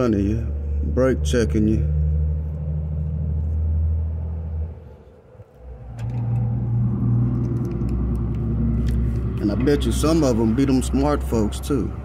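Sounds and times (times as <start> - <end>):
idling truck engine hum: 0.0 - 12.0.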